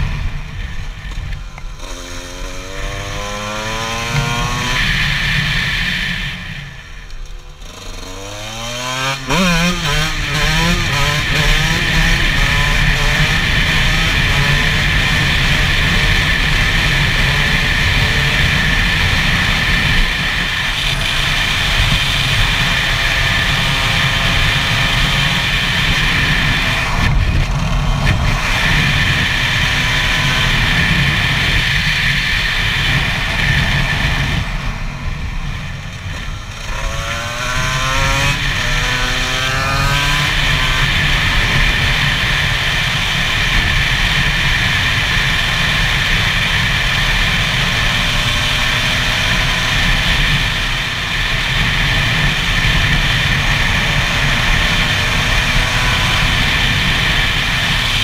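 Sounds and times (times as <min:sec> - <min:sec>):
wind rush on microphone: 0:00.0 - 0:07.1, 0:09.0 - 0:58.0
motorcycle engine revving: 0:00.0 - 0:58.0.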